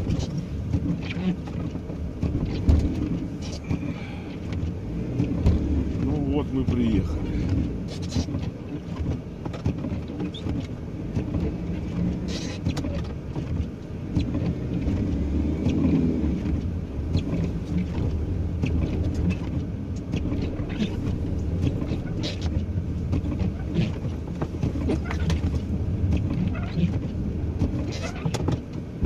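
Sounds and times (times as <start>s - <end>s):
van engine running: 0.0s - 29.0s.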